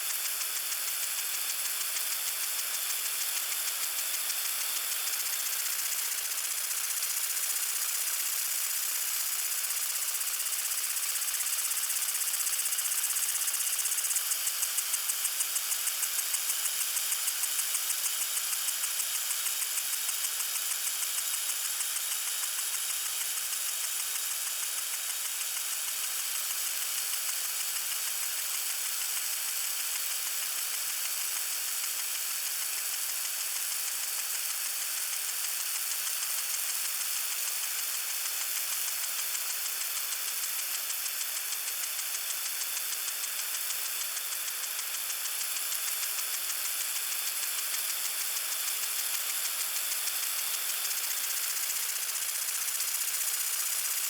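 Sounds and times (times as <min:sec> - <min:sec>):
lawn sprinkler spraying water: 0:00.0 - 0:54.0.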